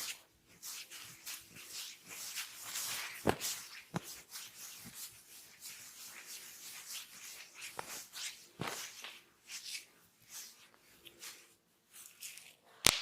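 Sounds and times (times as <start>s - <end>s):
hands rubbing oiled skin: 0.0s - 13.0s.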